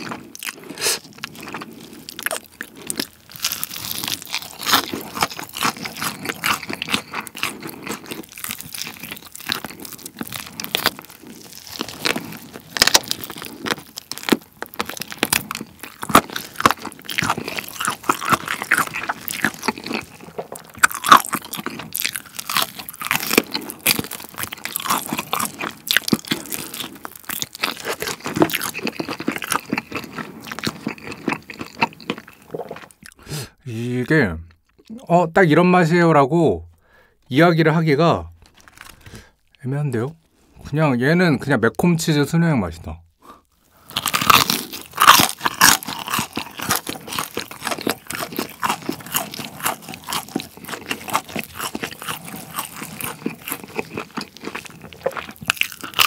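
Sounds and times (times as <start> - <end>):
crackles of crispy crust: 0.0 - 33.0, 38.4 - 39.4, 43.6 - 56.0
crunching and chewing fried chicken: 0.0 - 33.3, 38.4 - 39.6, 43.4 - 56.0.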